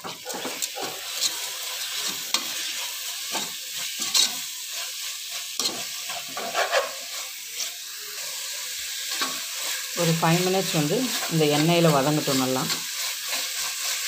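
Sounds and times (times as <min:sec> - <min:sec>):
spatula scraping a pot: 0:00.0 - 0:10.0, 0:11.0 - 0:14.0
chicken sizzling in oil: 0:00.0 - 0:14.0.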